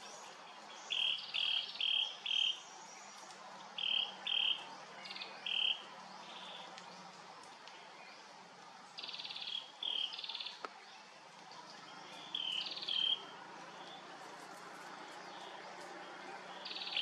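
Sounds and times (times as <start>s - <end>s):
faint forest background: 0.0s - 17.0s.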